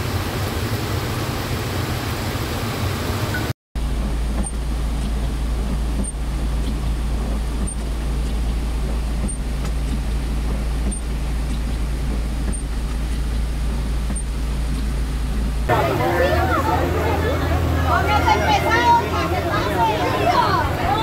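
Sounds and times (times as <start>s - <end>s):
heavy rain: 0.0s - 21.0s
running floodwater: 0.0s - 21.0s
vehicle engine idling: 0.0s - 21.0s.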